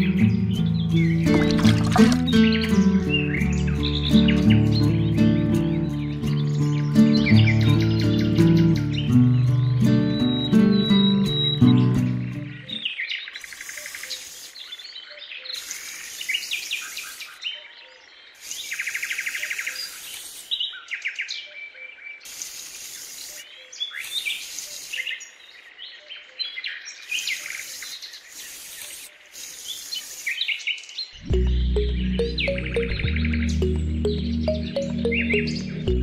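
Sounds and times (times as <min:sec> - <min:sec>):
small birds chirping and trilling: 0:00.0 - 0:36.0.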